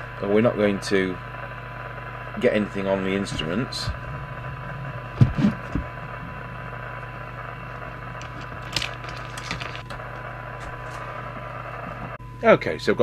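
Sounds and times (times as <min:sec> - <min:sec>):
radio loudspeaker hiss: 0:00.0 - 0:12.2
low hum: 0:00.0 - 0:12.4.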